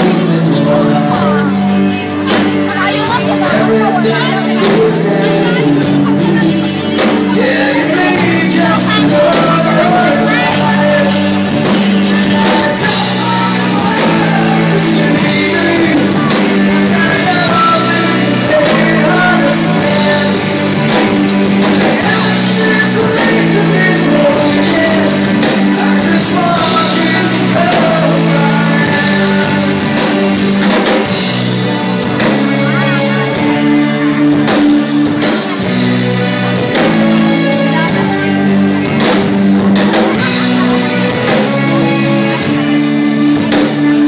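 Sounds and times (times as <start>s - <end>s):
drums: 0.0s - 44.0s
electric guitars: 0.0s - 44.0s
man singing: 0.0s - 44.0s.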